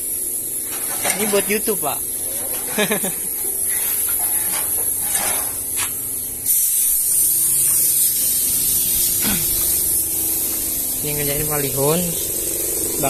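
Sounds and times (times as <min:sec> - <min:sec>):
paint spray gun hissing: 0:00.0 - 0:13.0.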